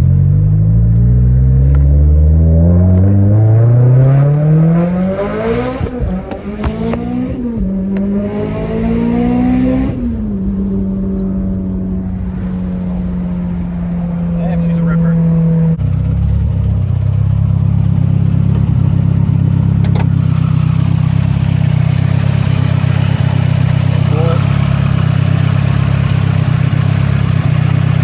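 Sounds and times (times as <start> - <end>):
car engine revving at full throttle: 0.0 - 28.0.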